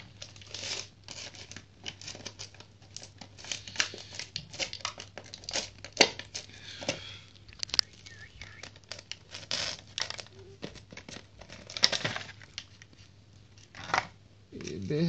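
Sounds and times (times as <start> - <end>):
plastic and cardboard crinkling: 0.0 - 7.9, 8.5 - 14.0.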